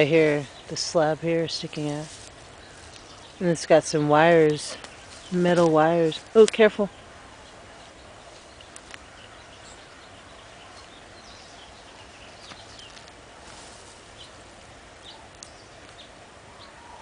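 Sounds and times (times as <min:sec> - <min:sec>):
outdoor background rush: 0:00.0 - 0:17.0.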